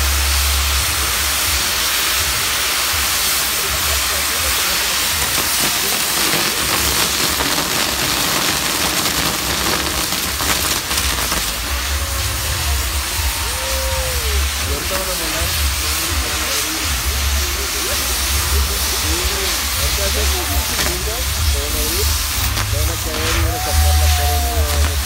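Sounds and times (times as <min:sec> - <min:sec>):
fireworks crackling: 0:00.0 - 0:25.0
fireworks hissing: 0:00.0 - 0:25.0.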